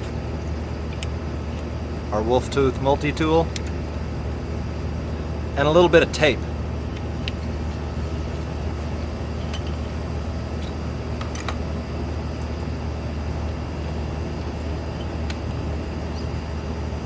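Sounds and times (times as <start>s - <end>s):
low roadside rumble: 0.0s - 17.0s.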